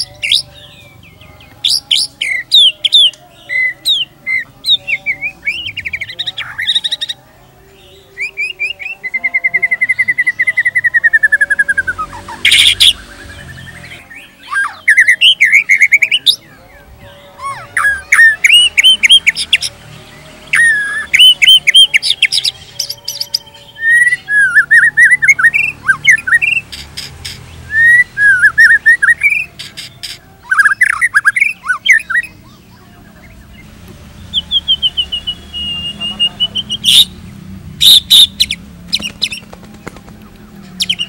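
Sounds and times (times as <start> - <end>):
bird singing whistled notes: 0.0 - 19.8, 20.5 - 39.5, 40.7 - 41.0.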